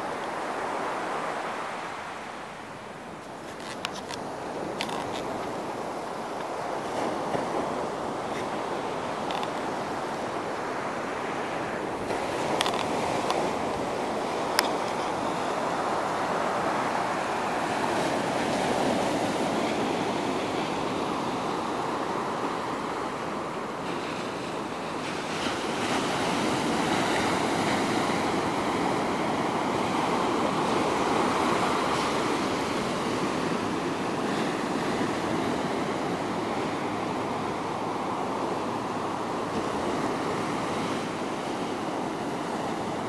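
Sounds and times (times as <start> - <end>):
ocean surf breaking on beach: 0.0 - 43.0.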